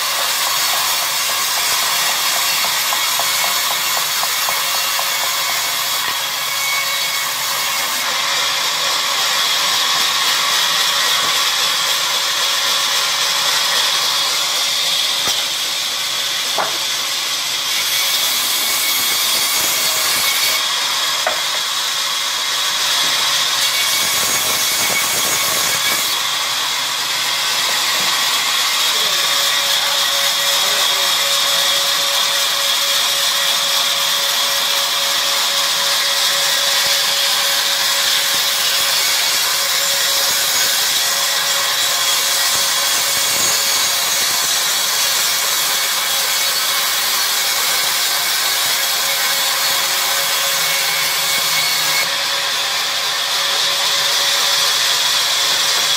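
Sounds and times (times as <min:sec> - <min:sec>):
band saw cutting timber: 0:00.0 - 0:55.9.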